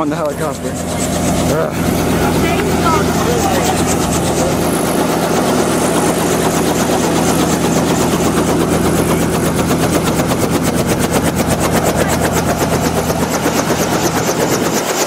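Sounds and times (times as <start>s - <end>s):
helicopter engine drone: 0.0s - 15.0s
helicopter rotor chopping: 0.0s - 15.0s.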